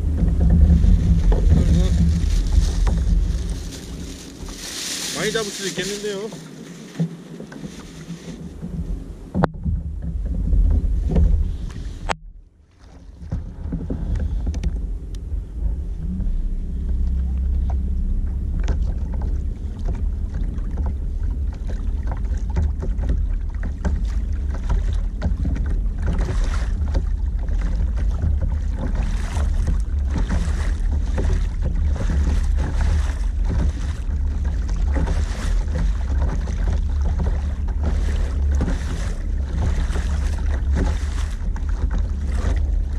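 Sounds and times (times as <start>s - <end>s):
wind buffeting microphone: 0.0s - 12.2s, 12.9s - 42.9s
water splashing along hull: 0.0s - 42.9s.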